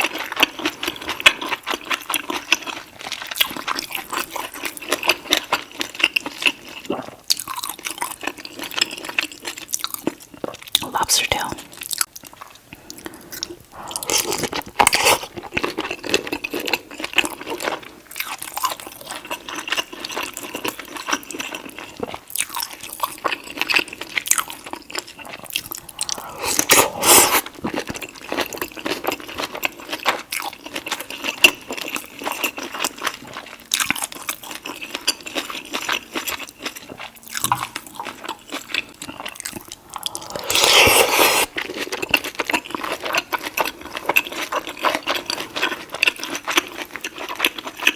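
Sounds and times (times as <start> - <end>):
wet chewing and lip smacking: 0.0 - 47.9.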